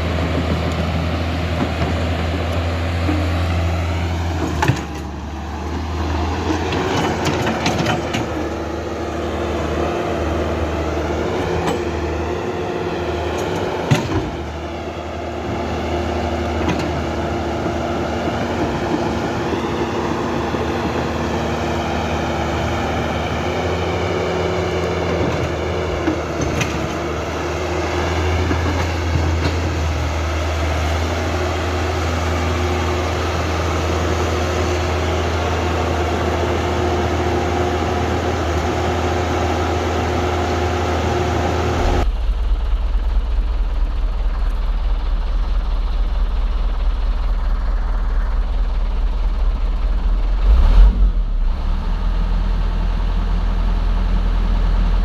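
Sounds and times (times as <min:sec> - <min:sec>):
construction machinery droning: 0:00.0 - 0:55.0.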